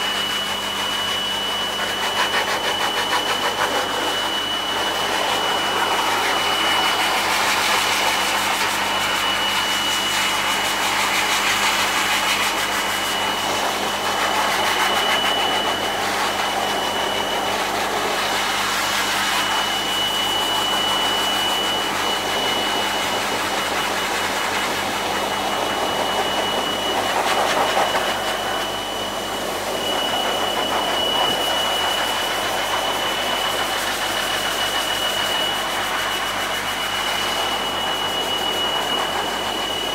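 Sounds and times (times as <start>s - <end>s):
high motor whine: 0.0s - 39.9s
pet dryer air rushing: 0.0s - 39.9s.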